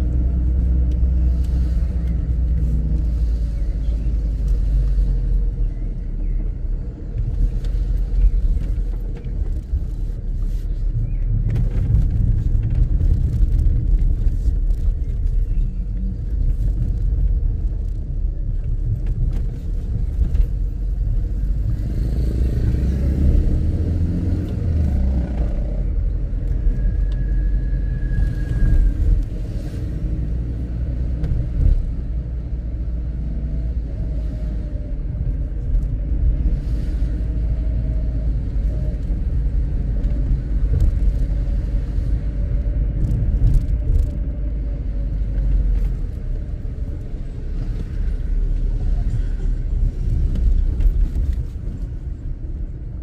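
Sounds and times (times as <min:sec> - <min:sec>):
car driving slowly: 0:00.0 - 0:53.0.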